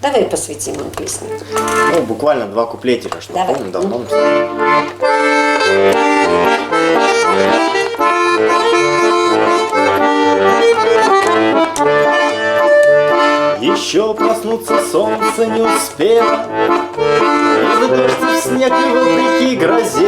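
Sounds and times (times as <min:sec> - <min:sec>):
button accordion playing: 0:00.6 - 0:02.4, 0:03.5 - 0:20.0.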